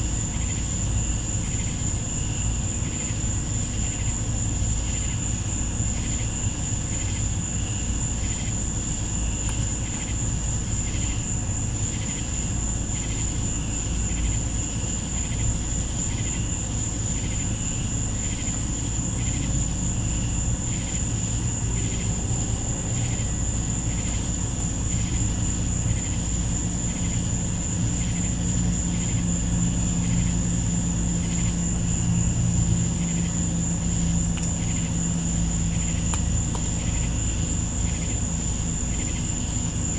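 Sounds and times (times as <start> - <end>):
insects trilling and chirping: 0.0 - 39.9
low steady drone: 0.0 - 39.9.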